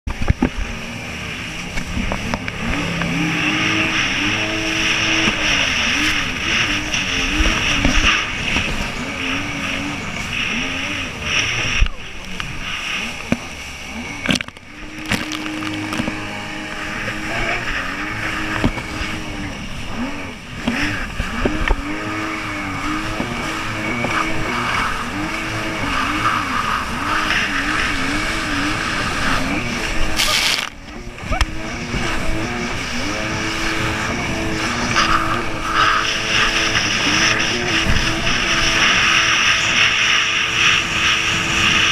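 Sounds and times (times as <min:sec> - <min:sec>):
jet ski engine: 0:00.0 - 0:41.9
wind and water spray: 0:00.1 - 0:41.9.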